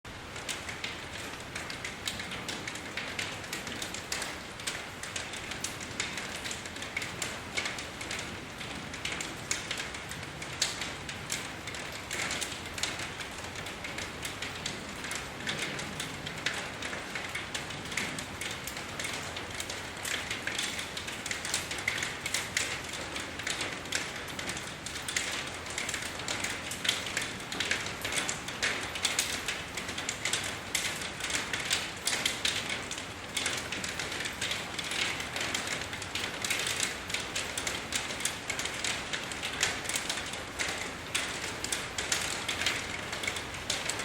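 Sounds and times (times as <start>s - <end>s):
steady rain dripping: 0.1s - 44.0s.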